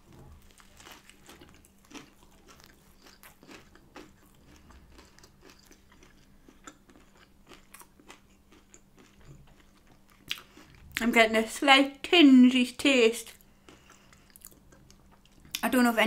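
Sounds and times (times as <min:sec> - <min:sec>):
person chewing burger: 0:00.0 - 0:11.0, 0:13.4 - 0:15.6.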